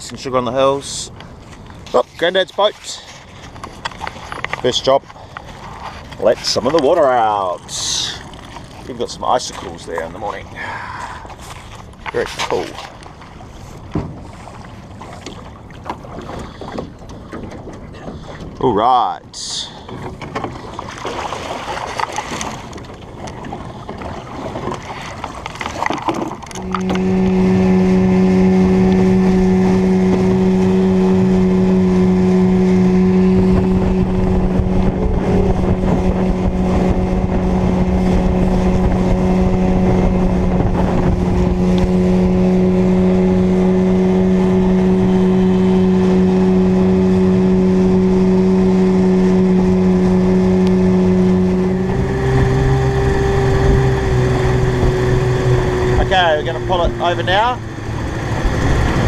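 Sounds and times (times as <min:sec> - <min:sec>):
outboard motor humming: 0:00.0 - 0:59.0.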